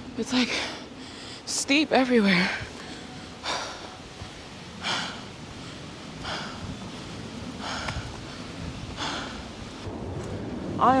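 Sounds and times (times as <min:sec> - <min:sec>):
woman breathing heavily: 0:00.4 - 0:10.7.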